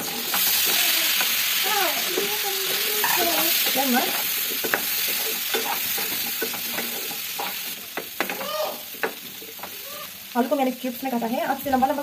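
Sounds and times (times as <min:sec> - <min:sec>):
spatula scraping and tapping pan: 0:00.0 - 0:09.9
vegetables sizzling in hot oil: 0:00.0 - 0:12.0.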